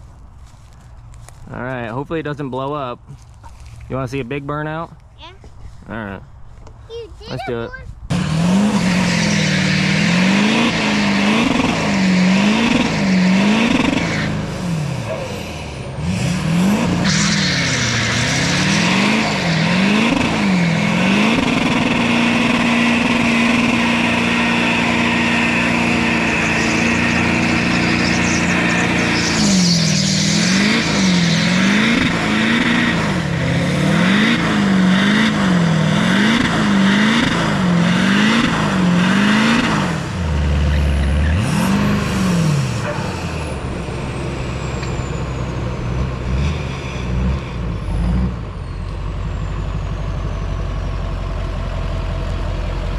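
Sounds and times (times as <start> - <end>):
diesel engine revving hard: 8.1 - 52.6.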